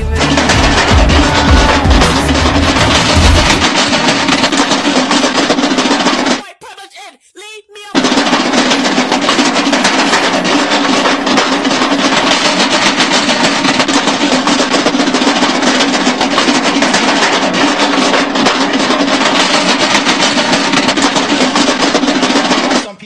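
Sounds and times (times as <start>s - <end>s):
rapid drum roll: 0.0s - 6.4s, 7.9s - 22.9s.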